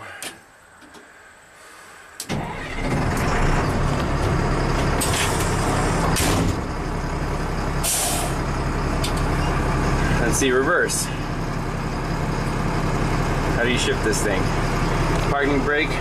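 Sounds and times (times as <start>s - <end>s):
diesel truck engine idling: 1.7s - 16.0s.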